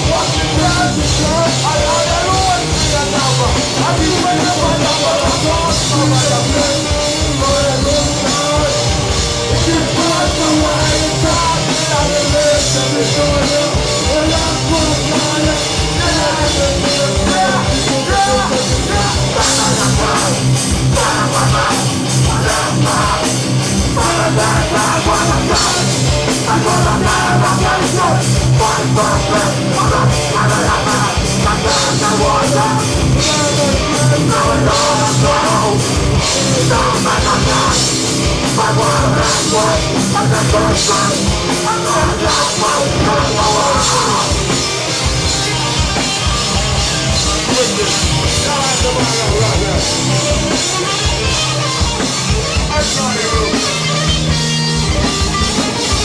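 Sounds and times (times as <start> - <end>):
bass guitar: 0.0 - 56.0
distorted electric guitars: 0.0 - 56.0
drum kit beat: 0.0 - 56.0.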